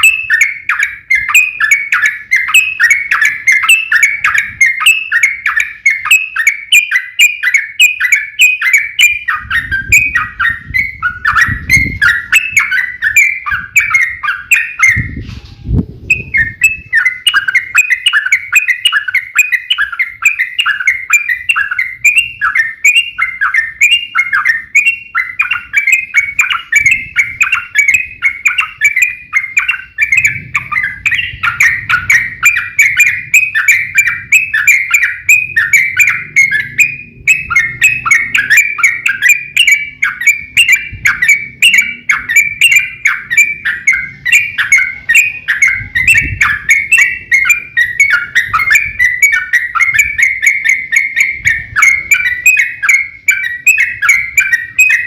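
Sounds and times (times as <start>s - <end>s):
bird rapid chattering song: 0.0s - 55.0s.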